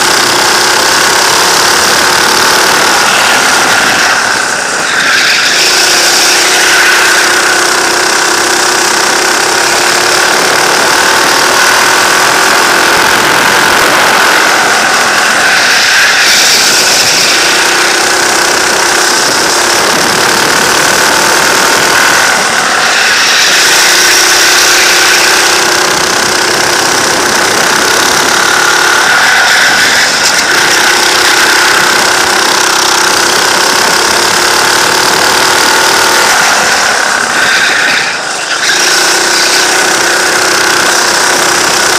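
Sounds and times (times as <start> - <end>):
go-kart engine running hard: 0.0 - 41.9
other kart engines: 0.0 - 41.9.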